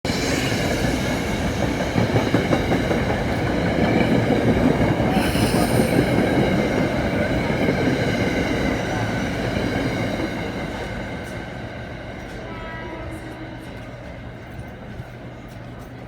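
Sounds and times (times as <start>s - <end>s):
train rumbling: 0.1s - 16.0s.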